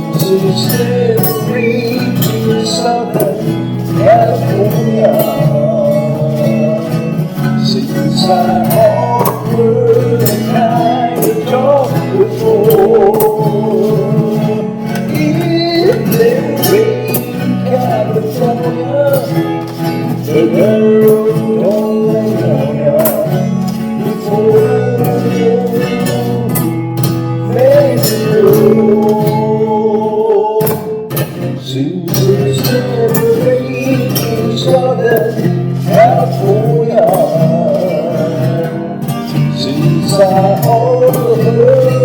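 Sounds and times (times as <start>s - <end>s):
strummed acoustic guitar music: 0.0s - 42.0s.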